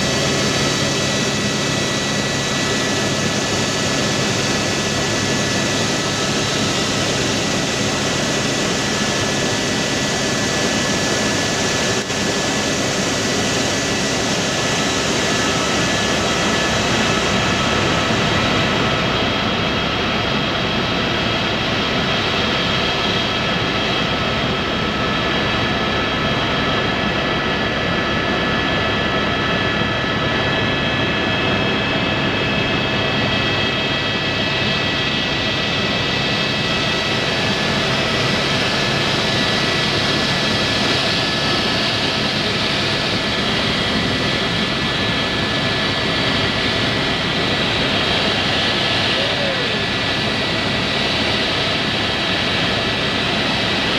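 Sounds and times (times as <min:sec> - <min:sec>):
rotor and engine rush: 0:00.0 - 0:25.4, 0:28.6 - 0:53.9
helicopter engine whine: 0:00.0 - 0:53.9.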